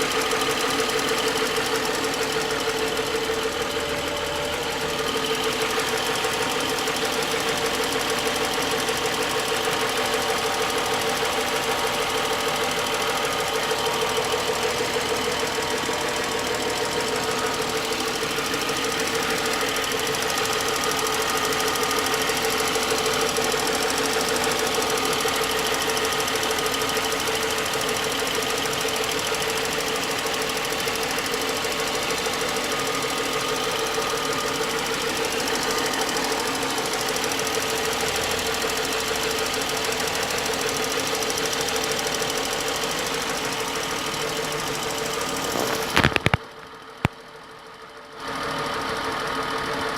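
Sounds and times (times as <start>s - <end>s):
car engine idling with knock: 0.0s - 49.9s.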